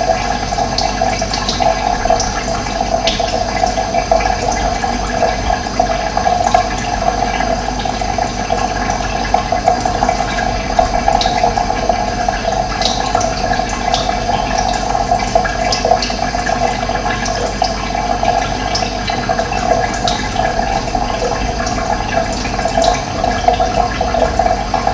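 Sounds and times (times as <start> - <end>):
water gushing: 0.0 - 24.9.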